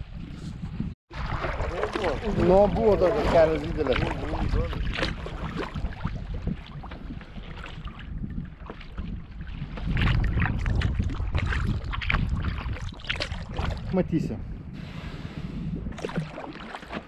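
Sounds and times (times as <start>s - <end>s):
wind noise on microphone: 0.0s - 17.0s
water splashing around kayak: 1.1s - 14.0s, 14.8s - 17.0s.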